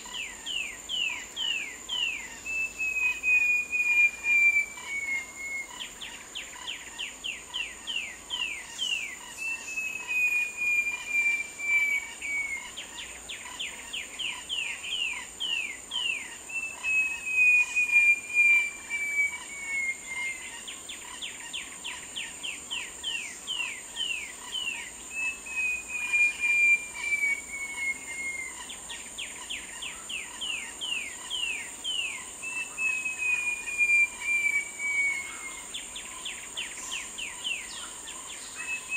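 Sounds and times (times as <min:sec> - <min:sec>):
high insect drone: 0:00.0 - 0:38.9
bird whistling and singing: 0:00.5 - 0:05.9, 0:08.0 - 0:13.1, 0:14.2 - 0:21.2, 0:22.2 - 0:28.8, 0:29.8 - 0:38.9.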